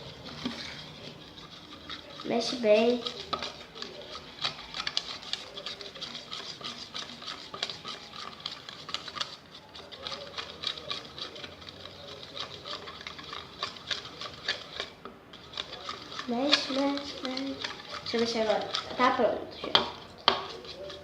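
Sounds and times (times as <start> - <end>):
stirrer scraping a pot: 0.0 - 21.0.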